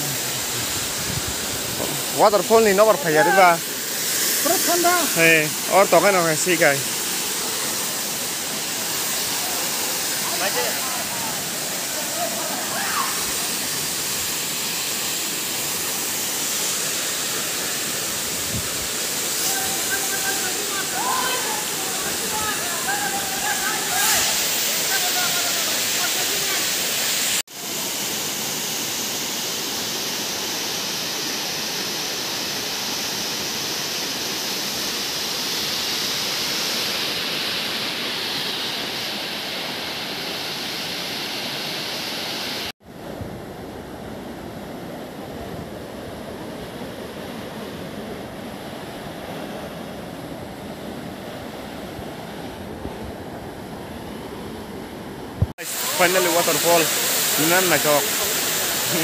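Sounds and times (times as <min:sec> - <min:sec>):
waterfall rushing: 0:00.0 - 0:42.8, 0:45.8 - 0:59.0.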